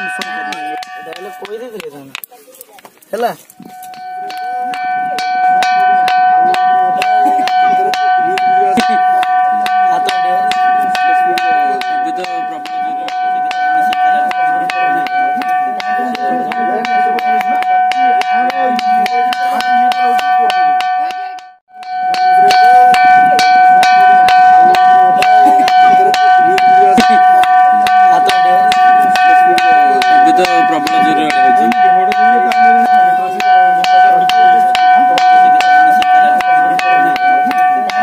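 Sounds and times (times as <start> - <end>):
ringing rock being struck: 0.0 - 2.3, 3.6 - 38.0.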